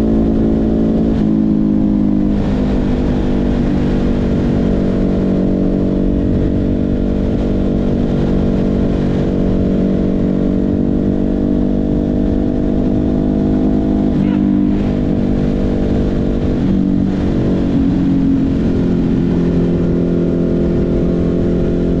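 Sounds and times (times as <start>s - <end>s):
motorcycle engine cruising: 0.0s - 22.0s
wind rush: 0.0s - 22.0s.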